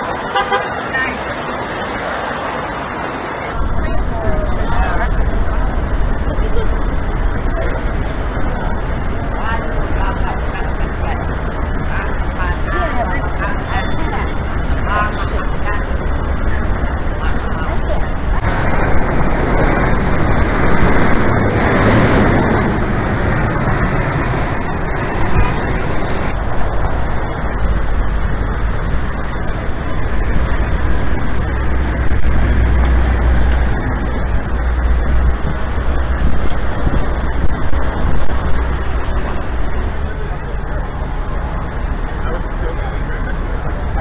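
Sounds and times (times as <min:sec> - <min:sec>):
low rumble of passing traffic: 0:00.0 - 0:44.0
vehicle passing loudly: 0:00.0 - 0:44.0.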